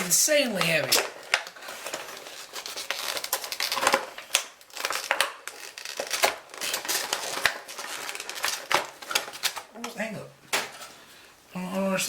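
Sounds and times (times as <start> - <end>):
plastic packaging crinkling: 0.0 - 10.9.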